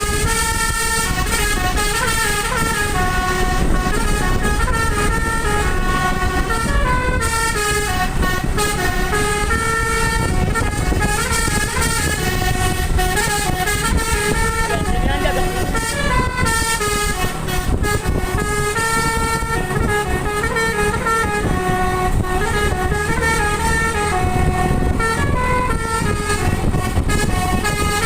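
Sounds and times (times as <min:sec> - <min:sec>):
low rumble: 0:00.0 - 0:28.0
musical bus horn playing a tune: 0:00.0 - 0:28.0.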